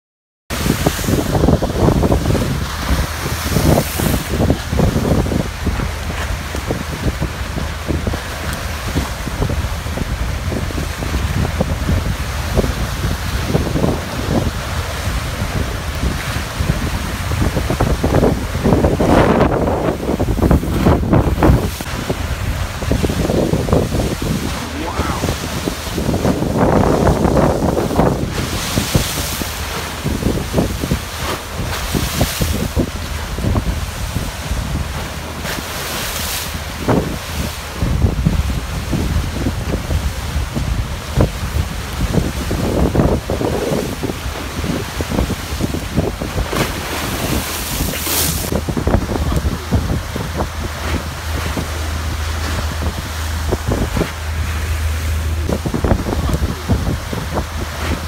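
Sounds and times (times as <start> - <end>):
waves splashing against dock: 0.5 - 58.0
wind buffeting microphone: 0.5 - 58.0.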